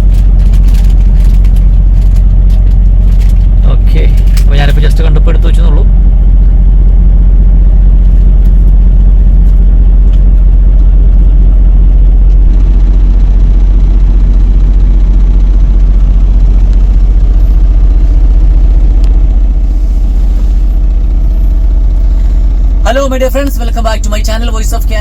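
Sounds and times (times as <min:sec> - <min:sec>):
truck diesel engine rumbling: 0:00.0 - 0:25.0.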